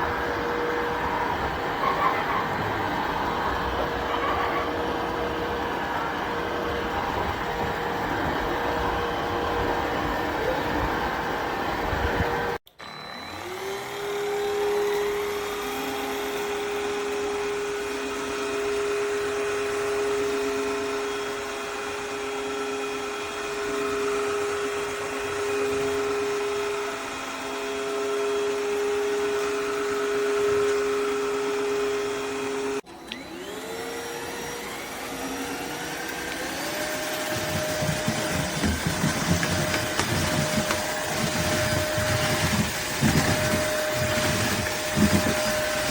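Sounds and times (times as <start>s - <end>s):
vacuum mop motor whine: 0.0s - 45.9s.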